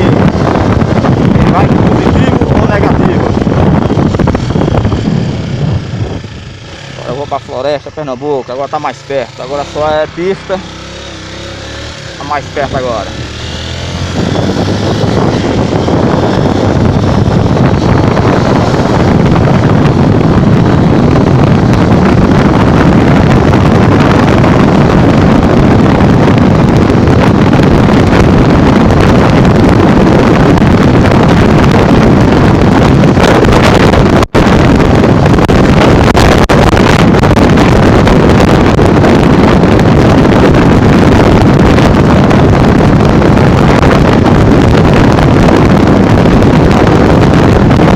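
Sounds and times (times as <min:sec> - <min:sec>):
motorcycle running at speed: 0:00.0 - 0:47.9
wind buffeting microphone: 0:00.0 - 0:47.9.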